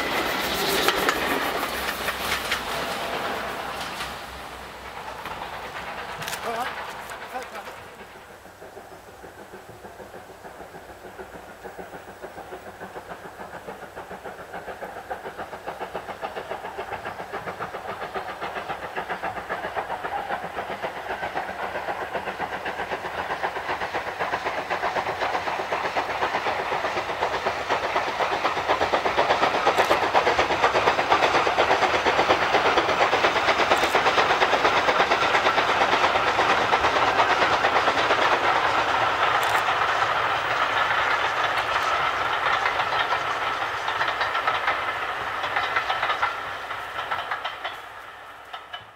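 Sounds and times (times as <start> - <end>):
steam locomotive exhaust beats: 0.0 - 48.9
train running past: 0.0 - 48.9.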